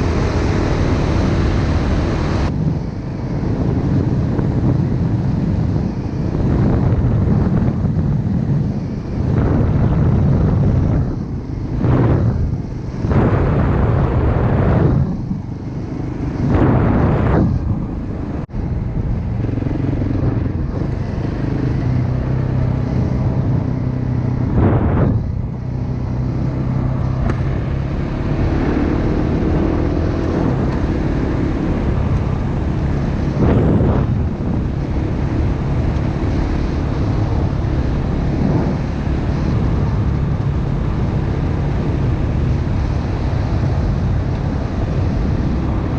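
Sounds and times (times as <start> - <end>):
dirt bike engine running: 0.0 - 45.9
wind buffeting microphone: 0.0 - 45.9.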